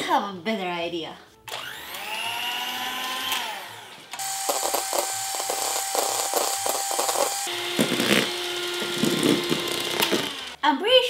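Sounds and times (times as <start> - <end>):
electric hand mixer whirring: 1.5 - 10.6.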